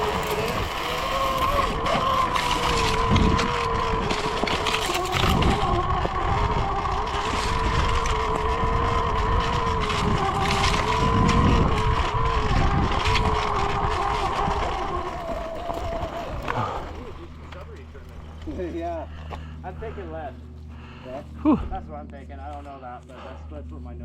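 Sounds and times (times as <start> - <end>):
electric motor whine: 0.0 - 24.0.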